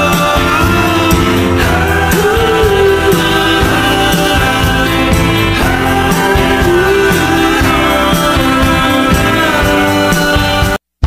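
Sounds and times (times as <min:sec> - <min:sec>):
background music with singing: 0:00.0 - 0:10.8.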